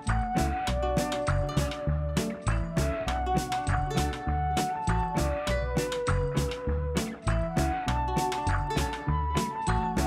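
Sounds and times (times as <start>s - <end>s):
bass line: 0.0s - 10.0s.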